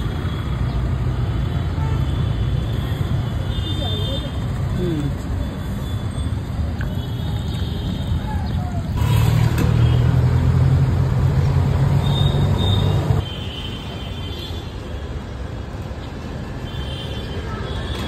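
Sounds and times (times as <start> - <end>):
traffic background noise: 0.0 - 18.0.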